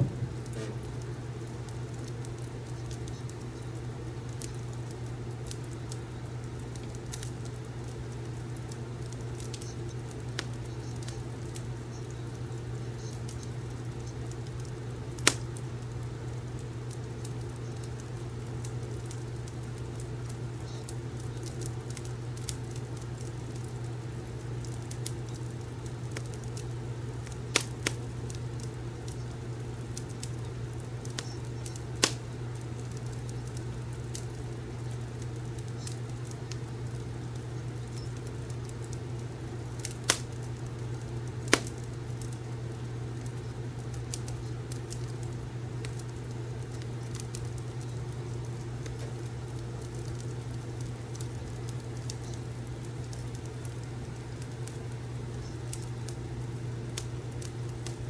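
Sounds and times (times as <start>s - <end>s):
sharp fire pops: 0.0s - 56.2s, 56.8s - 58.0s
steady low hum: 0.0s - 58.0s
wood fire crackling: 0.0s - 58.0s.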